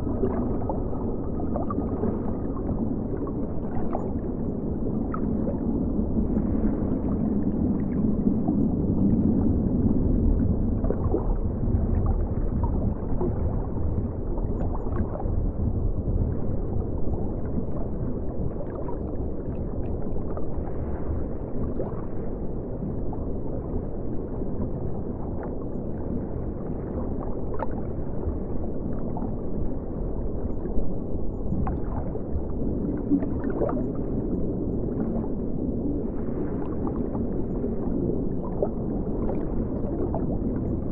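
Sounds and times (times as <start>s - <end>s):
muffled underwater river flow: 0.0s - 40.9s.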